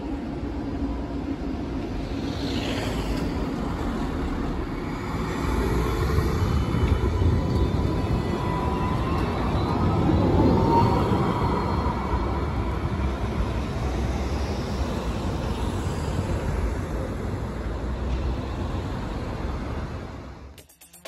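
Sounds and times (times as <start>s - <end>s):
electric tram rumbling past: 0.0s - 20.6s.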